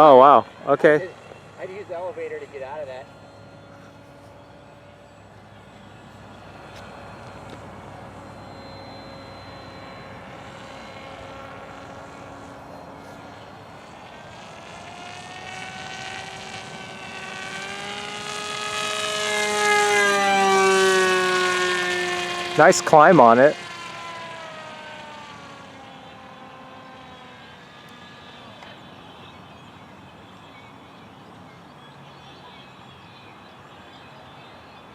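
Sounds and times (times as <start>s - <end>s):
model airplane motor droning: 0.0s - 34.9s.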